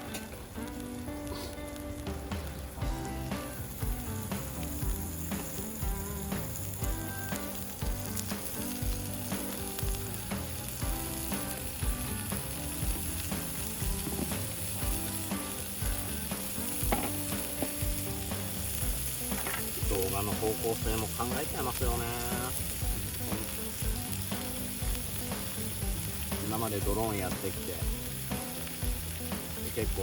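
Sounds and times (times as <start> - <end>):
meat sizzling on hot plate: 0.0 - 30.0.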